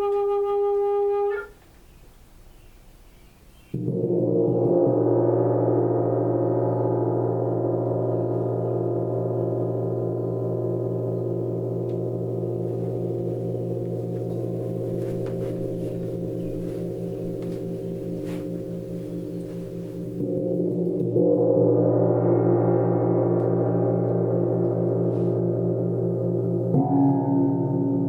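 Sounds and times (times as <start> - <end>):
gong ringing: 3.8 - 28.0.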